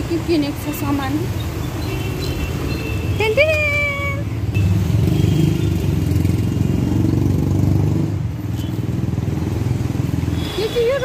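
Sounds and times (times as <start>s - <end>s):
vehicle rumbling on road: 0.0s - 11.0s.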